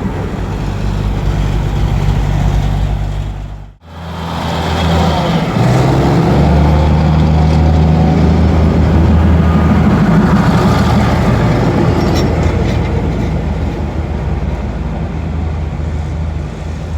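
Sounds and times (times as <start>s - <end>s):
diesel train engine running: 0.0s - 16.9s.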